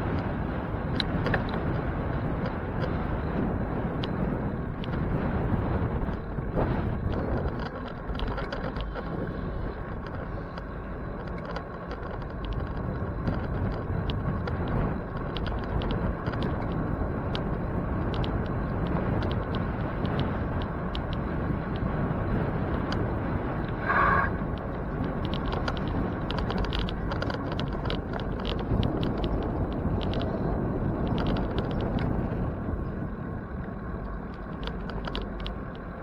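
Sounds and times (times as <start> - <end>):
bicycle clicks and rattles: 0.0 - 36.0
road rumble: 0.0 - 36.0
wind noise: 0.0 - 36.0.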